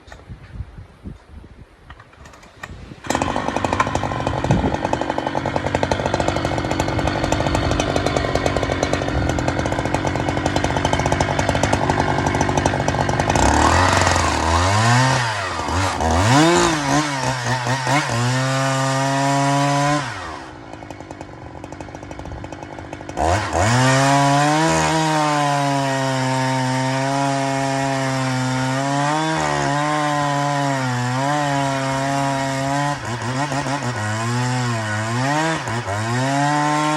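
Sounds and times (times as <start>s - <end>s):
chainsaw revving: 2.2s - 36.9s.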